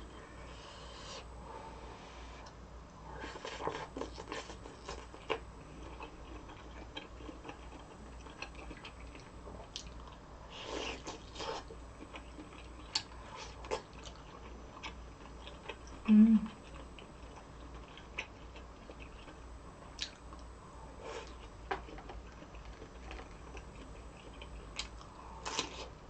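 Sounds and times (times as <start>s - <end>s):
person chewing and crunching food: 3.1s - 26.0s.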